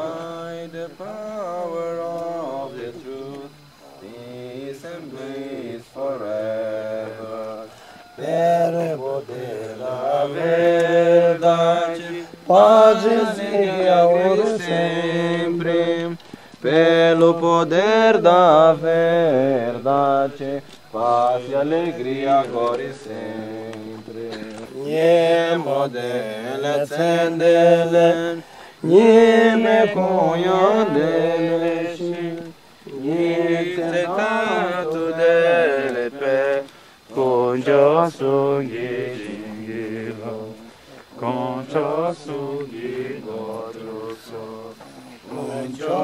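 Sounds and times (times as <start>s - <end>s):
mantra chanting: 0.0s - 46.0s.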